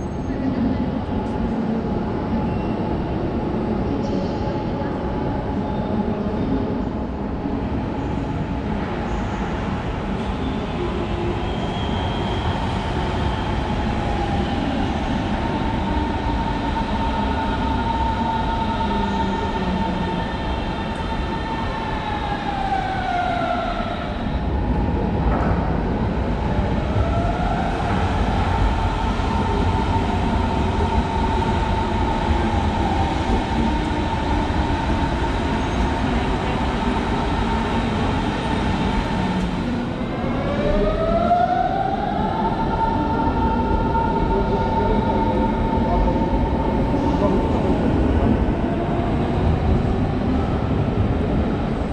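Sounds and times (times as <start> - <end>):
trains rumbling: 0.0 - 51.9.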